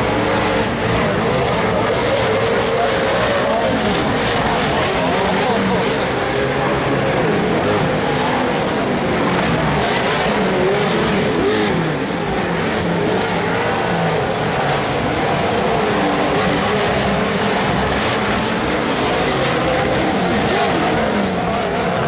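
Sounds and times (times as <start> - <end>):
racing engines revving: 0.0 - 22.0.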